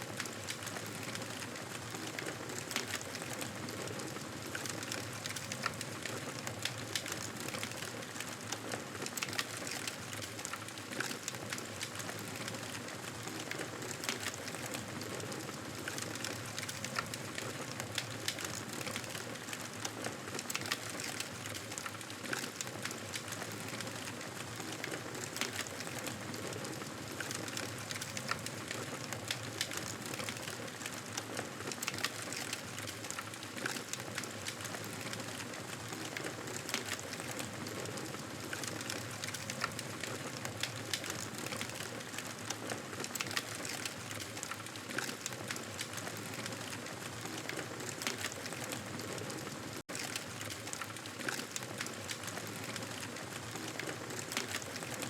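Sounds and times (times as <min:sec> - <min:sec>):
campfire crackling and hissing: 0:00.0 - 0:55.0.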